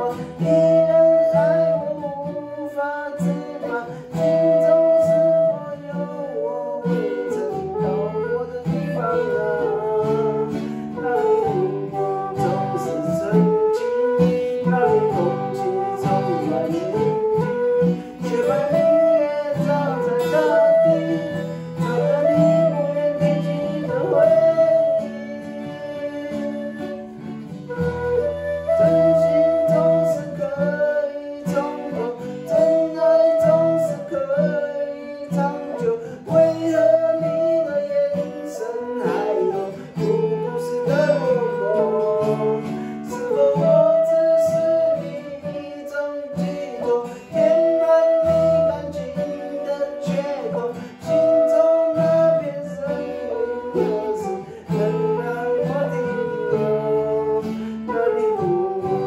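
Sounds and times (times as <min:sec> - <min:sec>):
acoustic guitar strumming: 0:00.0 - 0:59.0
bamboo flute long notes: 0:00.0 - 0:59.0
man singing: 0:00.0 - 0:59.0.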